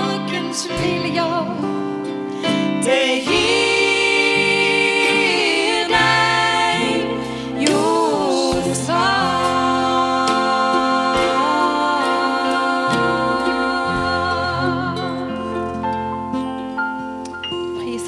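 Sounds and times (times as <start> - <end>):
person singing: 0.0 - 16.8
instrumental backing with bass: 0.0 - 18.0.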